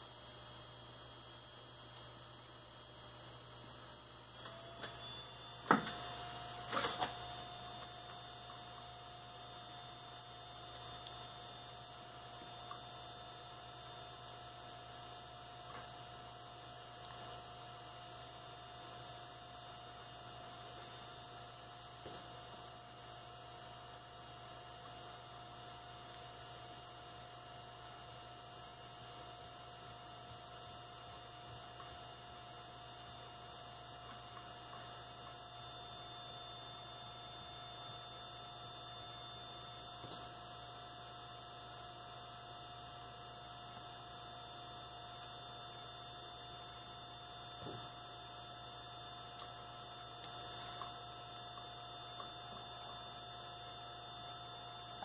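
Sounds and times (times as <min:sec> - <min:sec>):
electrical hum: 0:00.0 - 0:55.0
faint constant whine: 0:00.0 - 0:55.0.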